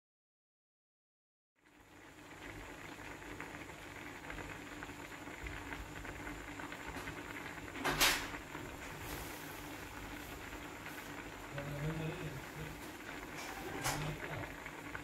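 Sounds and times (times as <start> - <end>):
curry bubbling in a pot: 1.6 - 15.0.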